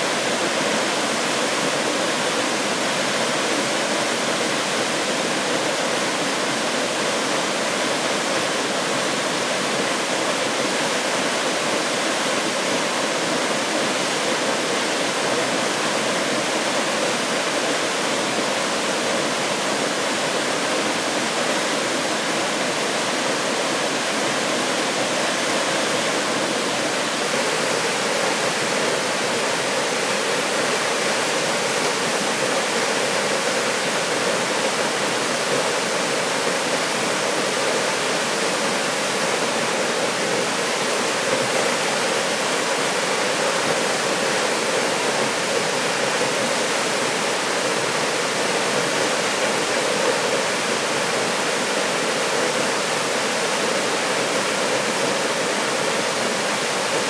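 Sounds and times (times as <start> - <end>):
waterfall rushing onto rocks: 0.0 - 57.0.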